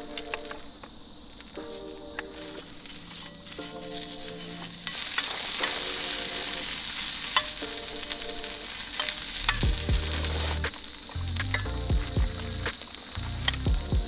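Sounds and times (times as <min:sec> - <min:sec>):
sandwich sizzling: 0:00.0 - 0:14.0.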